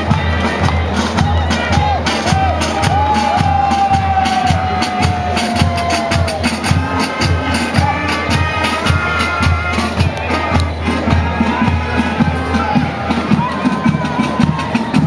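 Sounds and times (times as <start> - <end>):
drums keeping a steady beat: 0.0 - 15.0
marching band music: 0.0 - 15.0.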